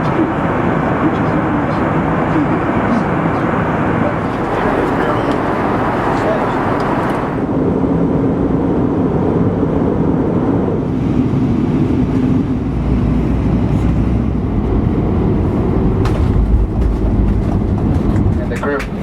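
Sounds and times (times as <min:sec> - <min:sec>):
road rumble: 0:00.0 - 0:19.0
vehicle engine drone: 0:00.0 - 0:19.0.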